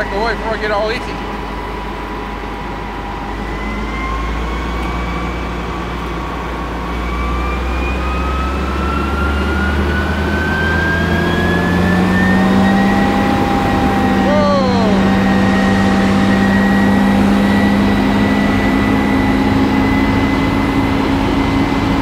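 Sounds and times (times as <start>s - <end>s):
combine engine hum: 0.0s - 22.0s
machine whine rising in pitch: 0.0s - 22.0s.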